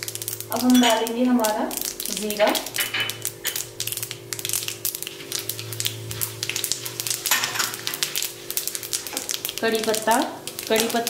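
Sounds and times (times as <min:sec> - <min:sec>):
seeds sizzling in hot oil: 0:00.0 - 0:11.0
spatula stirring: 0:00.0 - 0:11.0.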